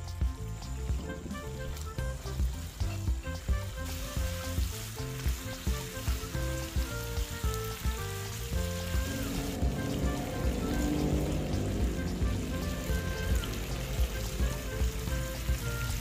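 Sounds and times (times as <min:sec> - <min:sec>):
background music with a beat: 0:00.0 - 0:16.0
shrimp sizzling in a frying pan: 0:00.4 - 0:16.0.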